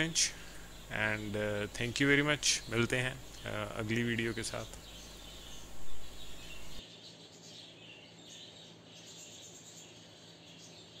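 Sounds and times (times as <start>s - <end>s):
finches chirping: 0.0s - 11.0s
low background hum: 0.0s - 11.0s.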